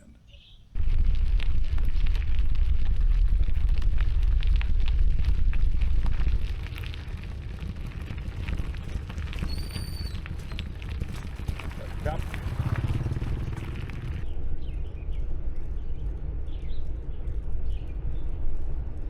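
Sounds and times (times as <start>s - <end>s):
wind buffeting microphone: 0.7s - 19.0s.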